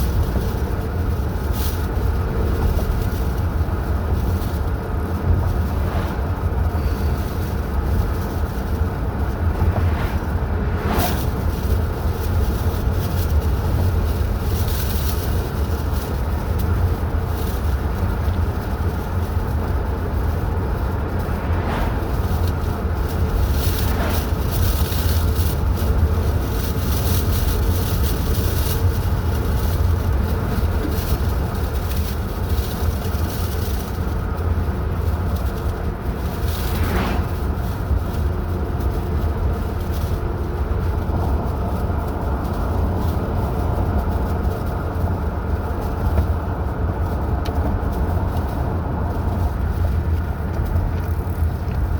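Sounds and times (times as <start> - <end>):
car engine and tyre rumble: 0.0 - 51.9.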